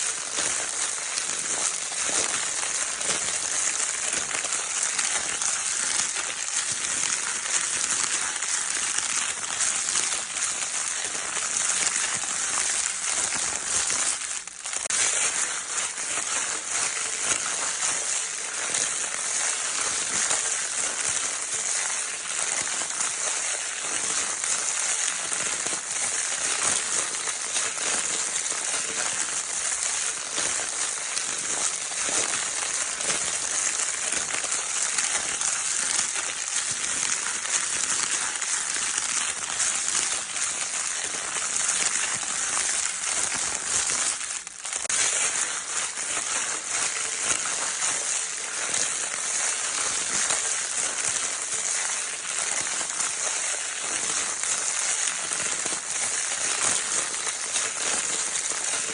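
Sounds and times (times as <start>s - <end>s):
crinkle paper rustling: 0.0s - 58.9s.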